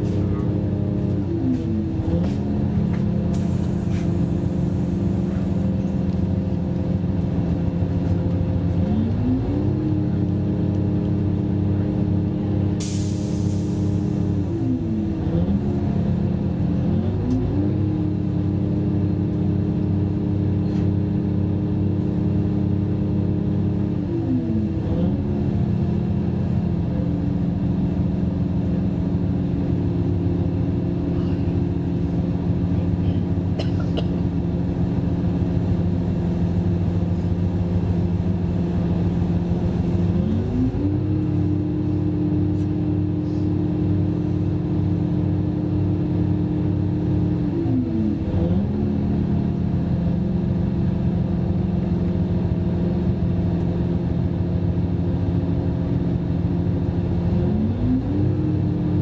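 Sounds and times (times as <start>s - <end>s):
diesel engine drone: 0.0s - 59.0s
train rumble: 0.0s - 59.0s.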